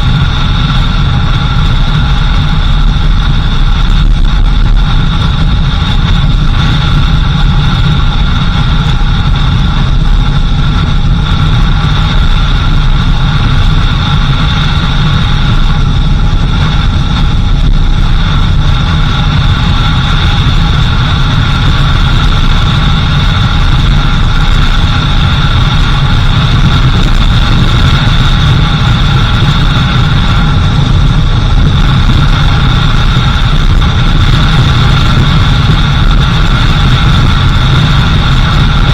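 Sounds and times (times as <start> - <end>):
road rumble: 0.0 - 38.9
vehicle engine running: 0.0 - 38.9.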